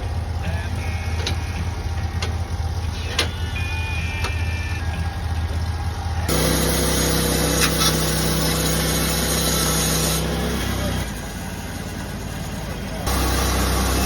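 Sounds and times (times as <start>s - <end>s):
sawmill engine cutting log: 0.0s - 14.0s.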